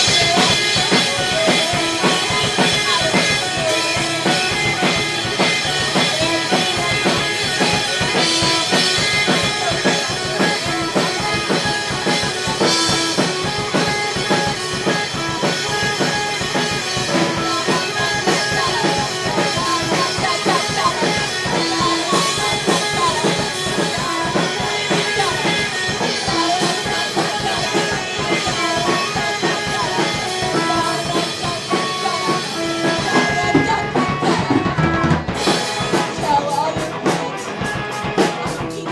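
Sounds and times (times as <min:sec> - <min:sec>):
drum kit fast beat: 0:00.0 - 0:38.9
rock band playing: 0:00.0 - 0:38.9.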